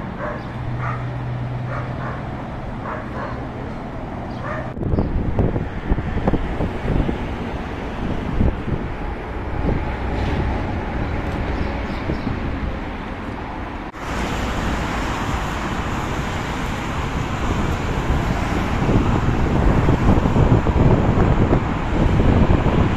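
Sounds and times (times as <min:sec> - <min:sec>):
steady rushing noise: 0:00.0 - 0:22.9
wind buffeting microphone: 0:04.0 - 0:22.9.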